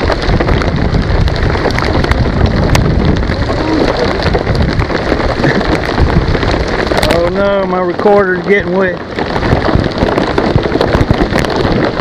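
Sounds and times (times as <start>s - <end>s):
heavy rain on water: 0.0s - 12.0s
raindrops ticking close by: 0.0s - 12.0s.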